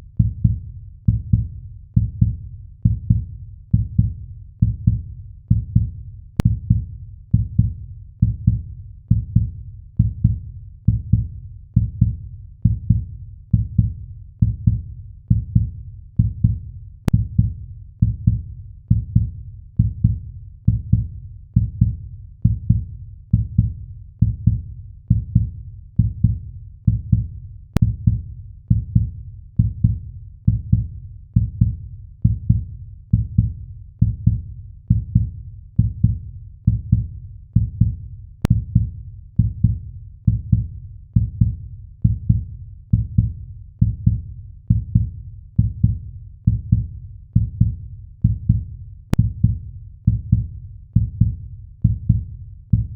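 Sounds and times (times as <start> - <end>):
heartbeat thumps: 0.2 - 52.9.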